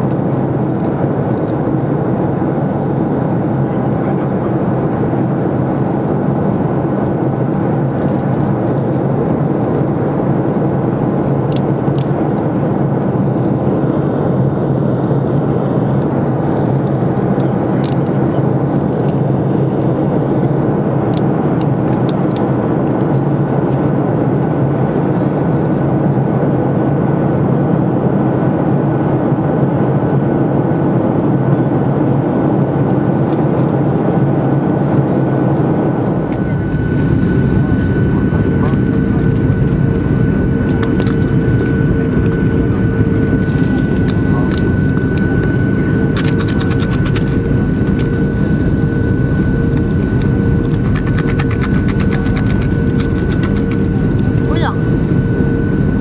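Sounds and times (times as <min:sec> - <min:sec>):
airplane cabin engine hum: 0:00.0 - 0:56.0
faint steady whine: 0:00.0 - 0:56.0.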